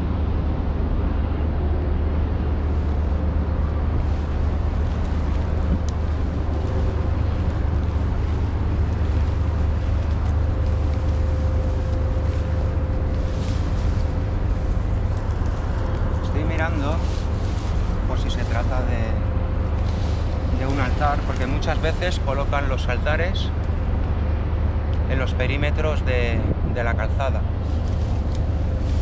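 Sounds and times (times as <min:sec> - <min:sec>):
wind buffeting microphone: 0:00.0 - 0:29.0
dry grass rustling: 0:02.5 - 0:24.8, 0:27.4 - 0:29.0.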